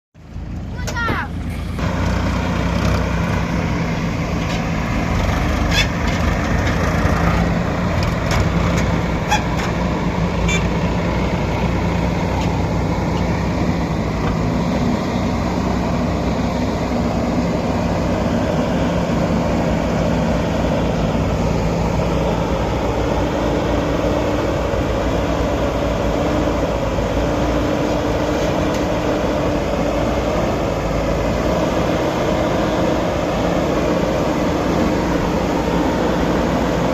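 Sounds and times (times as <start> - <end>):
diesel engine under load: 0.2 - 36.9.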